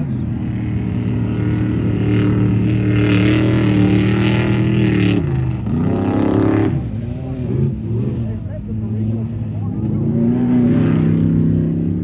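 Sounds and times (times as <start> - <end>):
race vehicle engine revving: 0.0 - 12.0.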